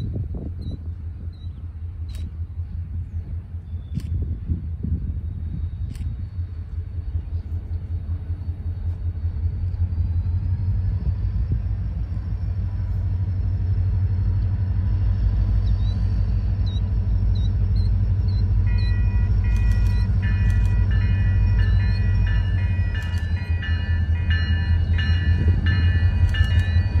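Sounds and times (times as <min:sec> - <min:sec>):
locomotive engine rumble: 0:00.0 - 0:27.0.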